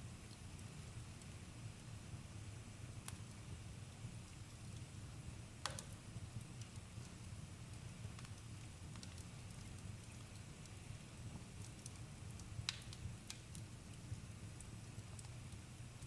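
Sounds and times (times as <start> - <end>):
fire crackles and pops: 0.0 - 16.0.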